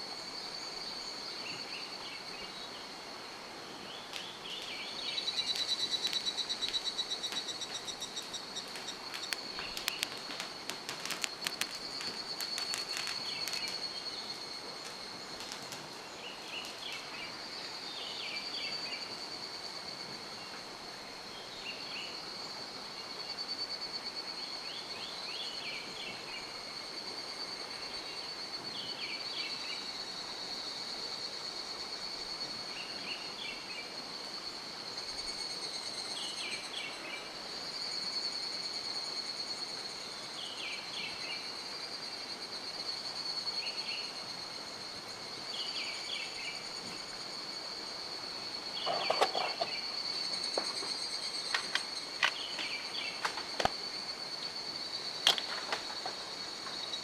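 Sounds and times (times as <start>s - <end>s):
high pulsing insect trill: 0.0s - 57.0s.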